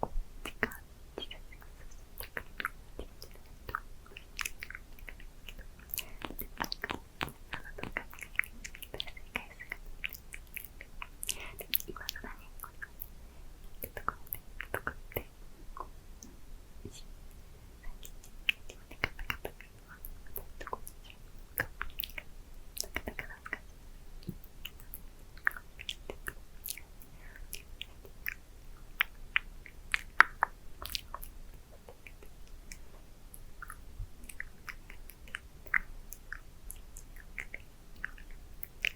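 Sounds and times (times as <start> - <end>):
wet lips smacking: 0.4 - 17.1, 17.8 - 38.9.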